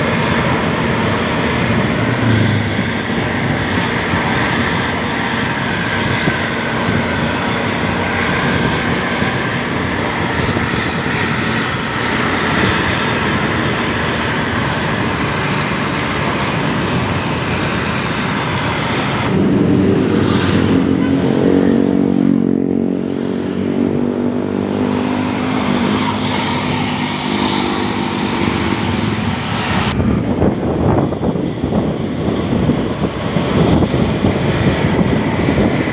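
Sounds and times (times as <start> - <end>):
bus exhaust engine note: 0.0 - 35.9
wind and road noise: 0.0 - 35.9.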